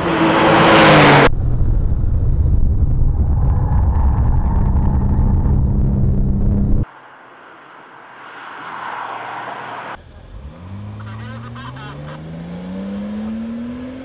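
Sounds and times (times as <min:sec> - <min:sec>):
car engine accelerating: 0:00.0 - 0:14.0
tyre and road noise: 0:00.0 - 0:14.0.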